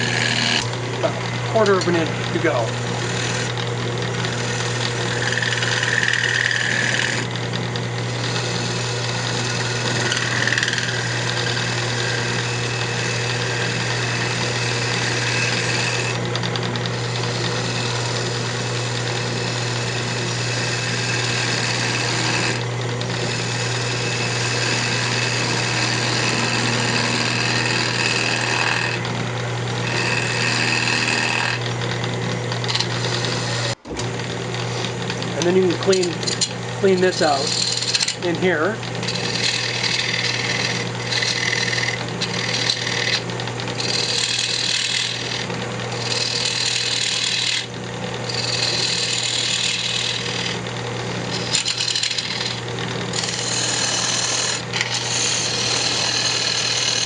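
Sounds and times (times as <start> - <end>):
turning tool cutting wood: 0.0 - 57.0
wood lathe motor hum: 0.0 - 57.0.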